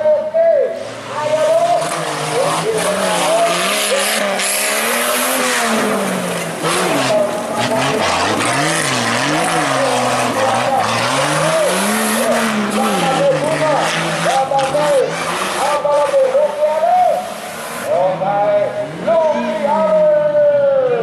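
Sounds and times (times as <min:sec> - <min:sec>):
engine revving: 0:00.8 - 0:20.0.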